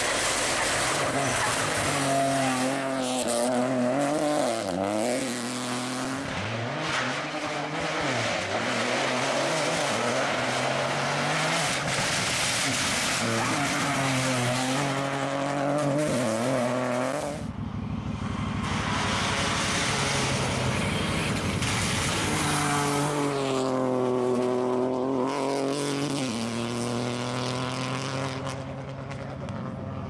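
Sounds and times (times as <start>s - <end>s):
rally car engines at high revs: 0.0s - 30.0s.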